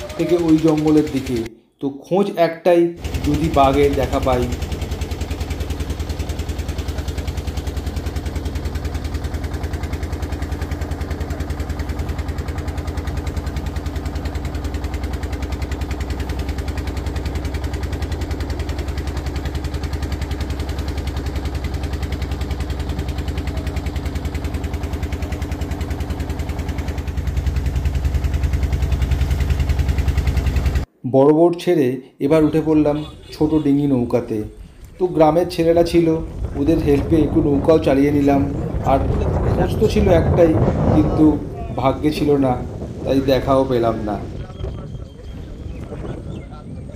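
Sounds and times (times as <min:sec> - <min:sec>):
boat engine running: 0:00.0 - 0:01.5, 0:03.0 - 0:30.9, 0:32.3 - 0:46.9.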